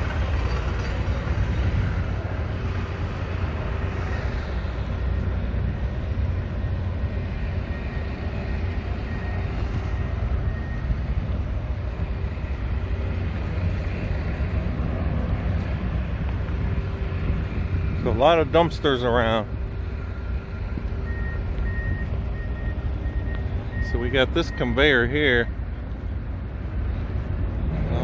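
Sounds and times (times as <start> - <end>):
low rumble of road traffic: 0.0 - 28.0.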